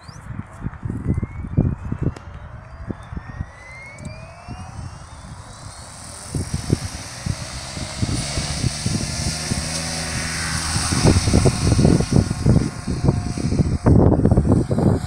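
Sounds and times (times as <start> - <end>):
helicopter motor whine: 0.0 - 15.0
rotor humming: 1.1 - 15.0.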